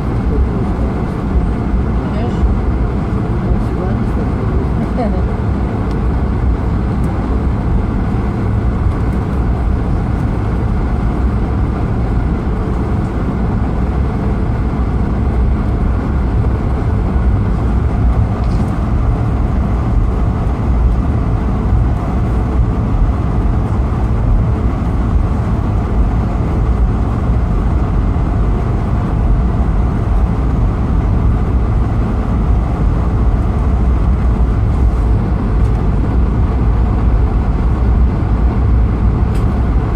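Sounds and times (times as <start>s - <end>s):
airflow: 0.0s - 39.9s
jet engine rumble in cabin: 0.0s - 39.9s.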